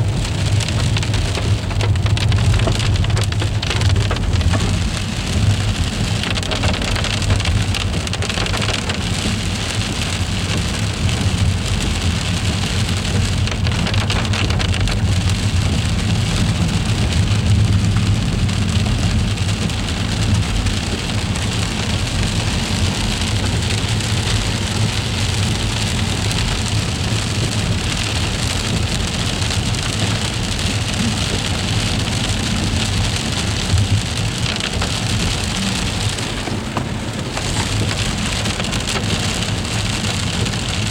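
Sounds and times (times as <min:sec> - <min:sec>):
freezing rain pattering: 0:00.0 - 0:40.9.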